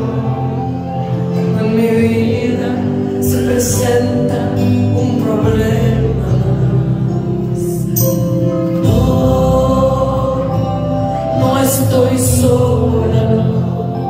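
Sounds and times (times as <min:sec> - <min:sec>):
church worship singing: 0:00.0 - 0:14.0.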